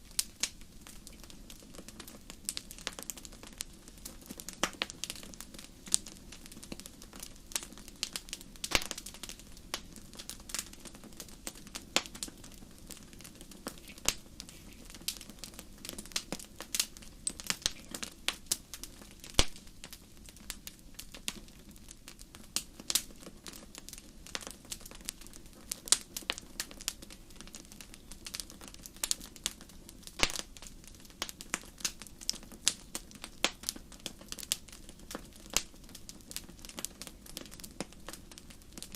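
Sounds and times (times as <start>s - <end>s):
wood fire crackling: 0.0s - 38.9s
sharp pops and snaps: 0.2s - 21.5s, 22.2s - 38.9s.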